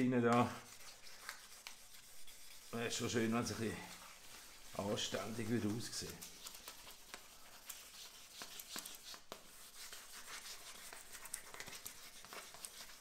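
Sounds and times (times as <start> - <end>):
sandpaper rubbing on paint: 0.5 - 13.0.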